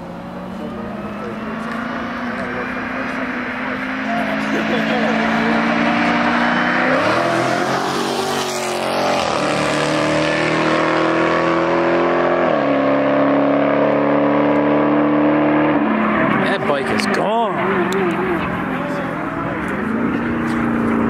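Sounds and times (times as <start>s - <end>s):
car engine accelerating: 0.0s - 21.0s
motorcycle accelerating: 0.0s - 21.0s.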